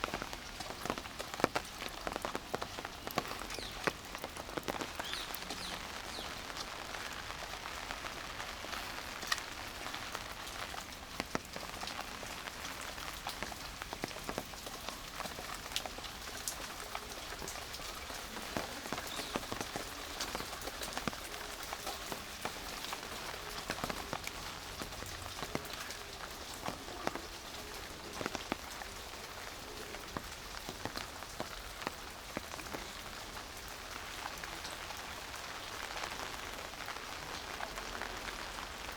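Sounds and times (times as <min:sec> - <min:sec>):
raindrops ticking on surfaces: 0:00.0 - 0:38.9.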